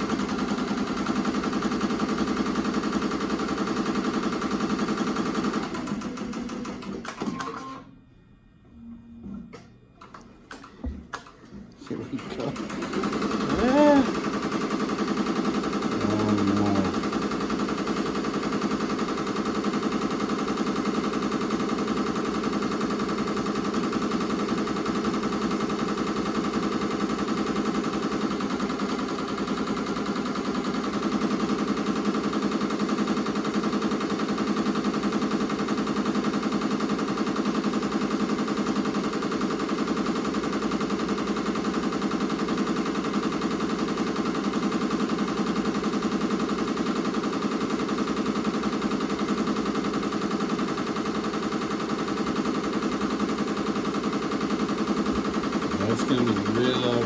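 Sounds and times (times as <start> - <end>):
embroidery machine stitching: 0.0 - 7.8, 12.2 - 57.0.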